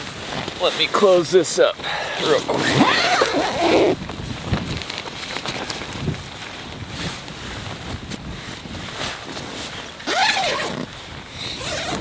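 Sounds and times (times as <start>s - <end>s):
nylon fabric rustling: 0.0s - 12.0s
tent zipper being pulled: 2.2s - 12.0s.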